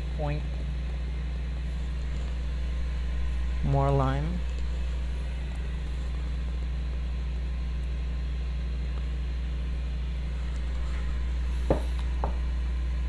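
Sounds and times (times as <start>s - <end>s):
grill humming: 0.0s - 13.0s.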